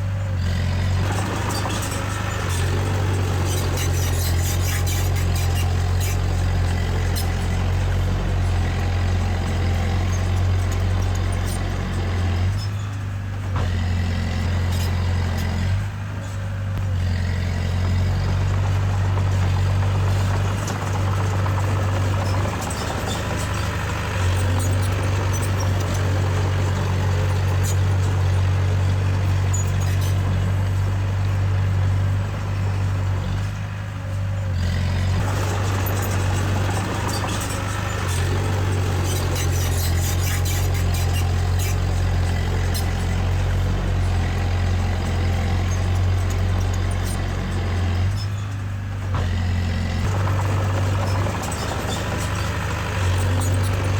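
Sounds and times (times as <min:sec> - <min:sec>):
diesel engine running: 0:00.0 - 0:53.9
light clanks and rattles: 0:00.4 - 0:53.9.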